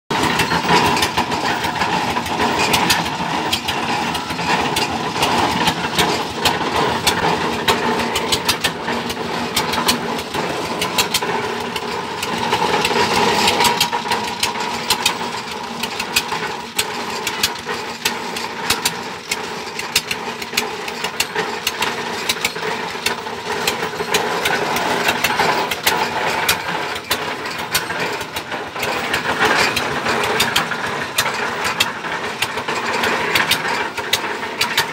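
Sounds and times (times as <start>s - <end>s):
drilling rig engine running: 0.1s - 34.9s
sharp clicks and knocks: 0.1s - 34.9s.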